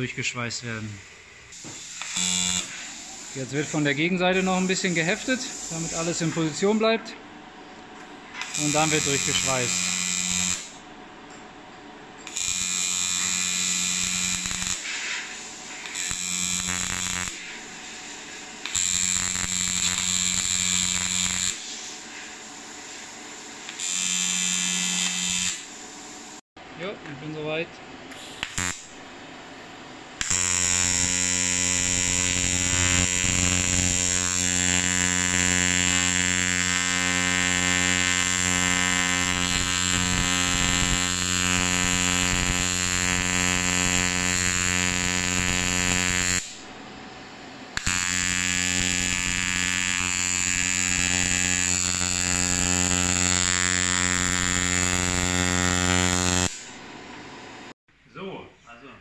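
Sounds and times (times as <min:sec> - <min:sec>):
welding arc buzzing: 0:00.8 - 0:07.0, 0:08.3 - 0:11.0, 0:12.2 - 0:26.4, 0:28.1 - 0:29.1, 0:30.2 - 0:46.9, 0:47.7 - 0:57.8.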